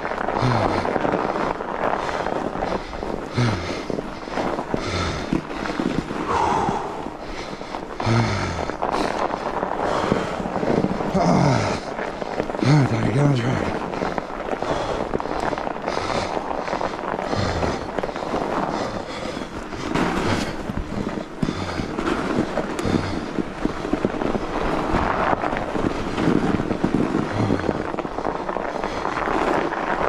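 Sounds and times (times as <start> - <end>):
bike tyres crunching on snow: 0.0 - 30.0.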